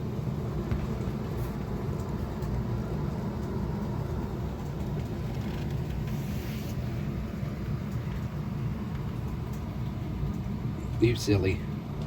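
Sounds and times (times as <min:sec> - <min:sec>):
low machine rumble: 0:00.0 - 0:12.0.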